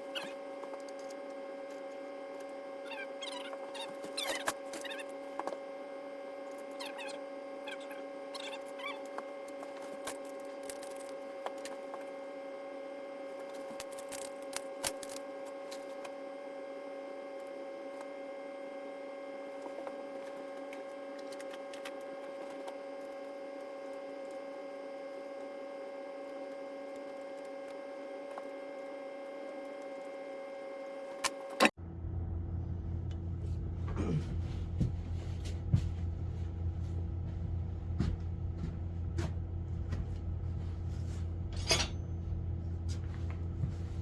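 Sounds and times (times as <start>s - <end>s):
machine hum: 0.0s - 44.0s.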